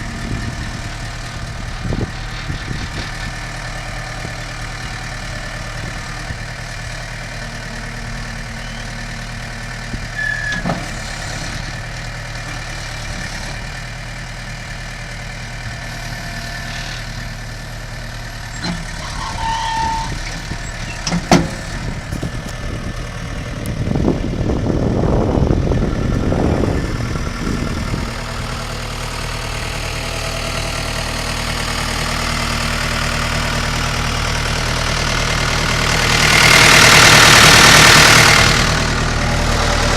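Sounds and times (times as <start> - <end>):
engine rushing: 0.0 - 14.1, 15.5 - 39.9
diesel engine idling: 0.0 - 39.9.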